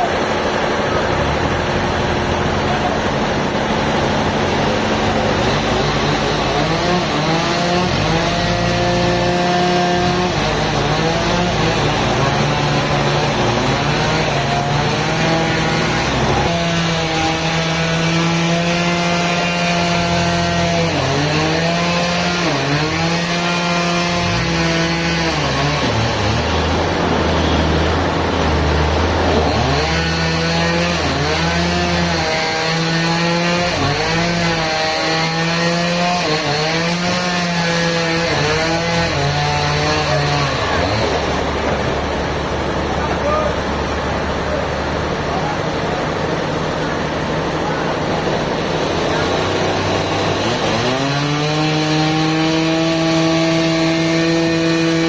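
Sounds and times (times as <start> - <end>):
engine saw cutting wood: 0.0 - 55.0.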